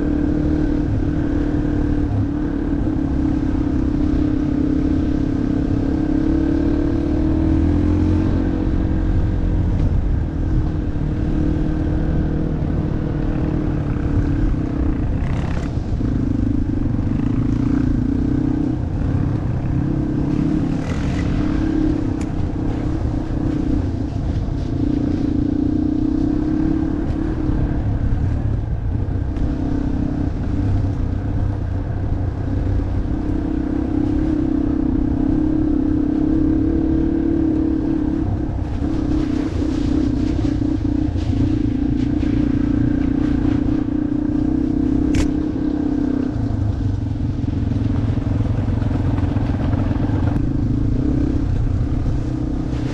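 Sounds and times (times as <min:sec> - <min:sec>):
low rumble: 0:00.0 - 0:52.9
motorcycle engine revving: 0:00.0 - 0:52.9.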